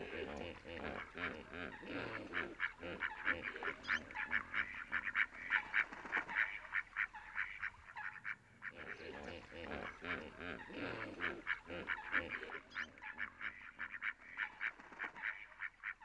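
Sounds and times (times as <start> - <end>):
waterbirds honking: 0.0 - 16.0.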